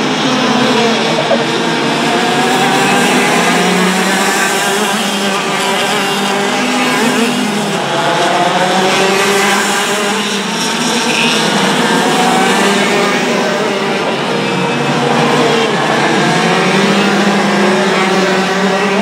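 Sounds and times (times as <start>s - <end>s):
kart engines at high revs: 0.0s - 19.0s.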